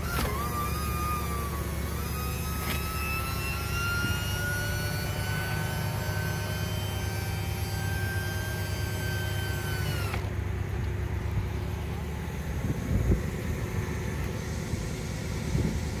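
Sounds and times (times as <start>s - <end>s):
car engine idling: 0.0s - 16.0s
convertible top motor whining: 0.0s - 16.0s.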